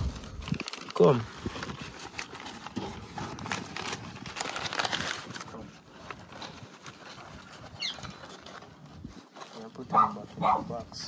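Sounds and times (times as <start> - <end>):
paper and cardboard rustling: 0.0 - 11.0.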